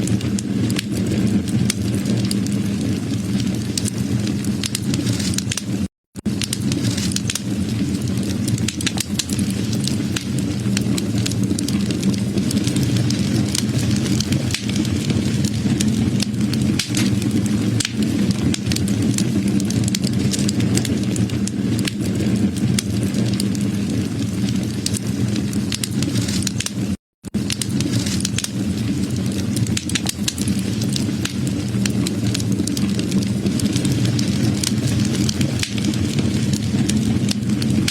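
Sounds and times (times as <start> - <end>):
fire popping and snapping: 0.0 - 37.9
wood fire crackling: 0.0 - 37.9.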